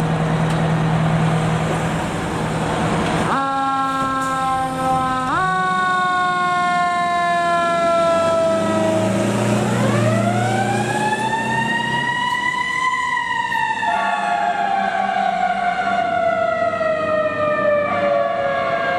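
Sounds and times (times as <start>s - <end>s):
truck engine rumbling: 0.0s - 18.9s
fire truck siren wailing: 1.5s - 18.9s.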